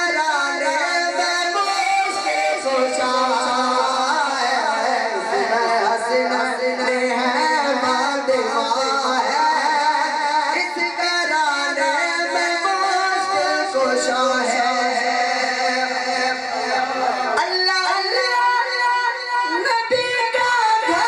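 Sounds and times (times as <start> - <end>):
man singing devotional verse: 0.0 - 21.0.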